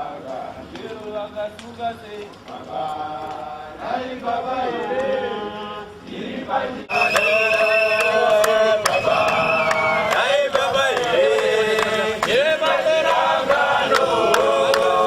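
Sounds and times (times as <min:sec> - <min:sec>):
group singing a protest chant: 0:00.0 - 0:15.0.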